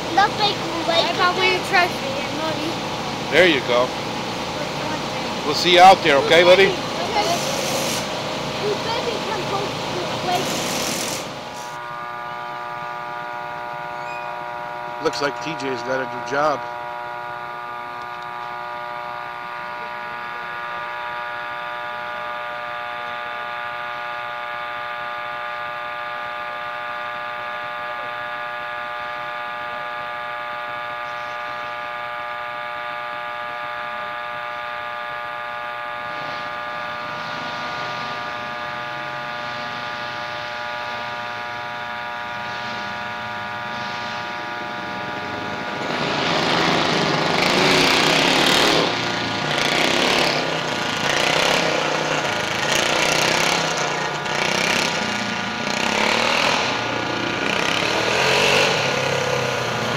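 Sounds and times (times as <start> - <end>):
distant engines revving: 0.0 - 59.9
small engine droning: 0.0 - 59.9.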